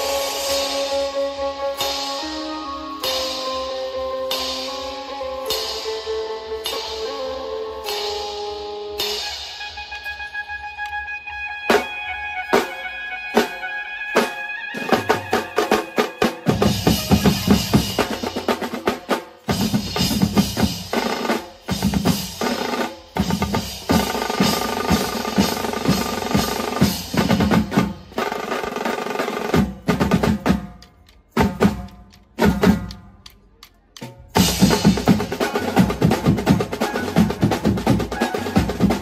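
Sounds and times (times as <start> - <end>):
music with heavy drumming: 0.0 - 10.2, 11.6 - 39.0.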